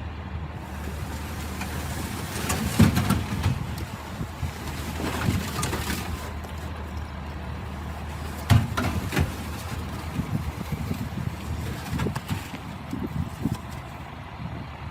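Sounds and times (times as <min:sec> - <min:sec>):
heavy vehicle engine running: 0:00.0 - 0:14.9.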